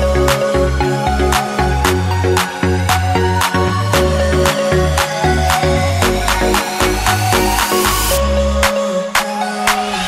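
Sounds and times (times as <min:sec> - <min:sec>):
bass line: 0:00.0 - 0:08.7
background music with beat: 0:00.0 - 0:10.0.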